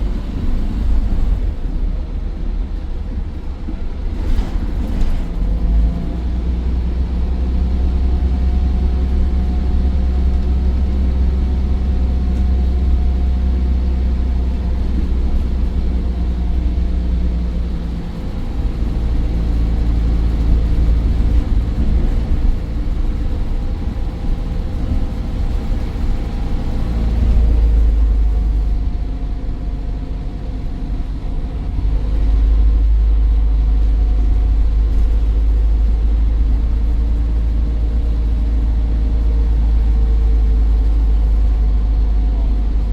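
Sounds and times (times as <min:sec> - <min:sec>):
diesel bus engine rumbling: 0:00.0 - 0:42.9.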